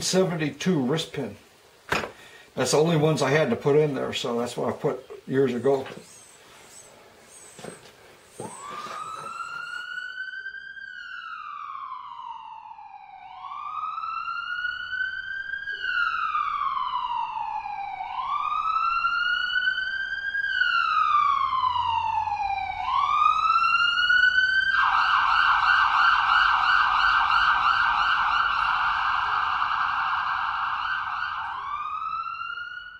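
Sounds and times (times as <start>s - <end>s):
emergency siren wail and yelp: 5.8s - 32.9s.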